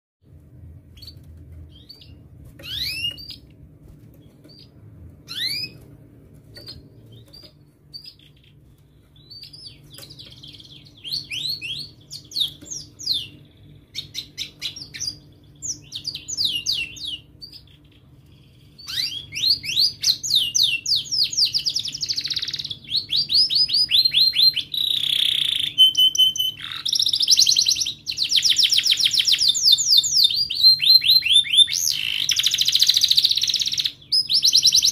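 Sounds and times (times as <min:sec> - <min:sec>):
canary singing: 0:00.8 - 0:34.9.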